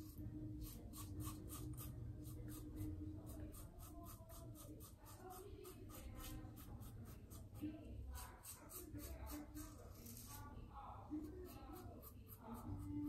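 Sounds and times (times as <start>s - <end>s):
razor scraping stubble: 0.0s - 10.6s.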